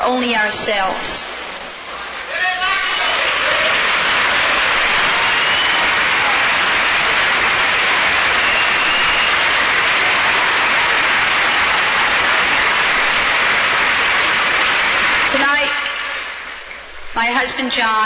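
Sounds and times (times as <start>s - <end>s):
crowd applauding: 0.8s - 17.7s.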